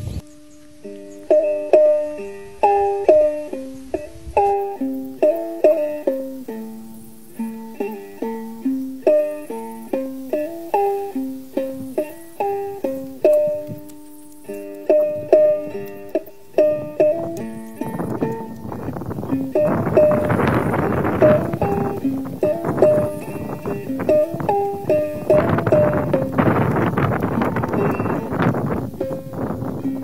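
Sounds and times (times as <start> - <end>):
plucked string instrument melody: 0.2 - 30.0.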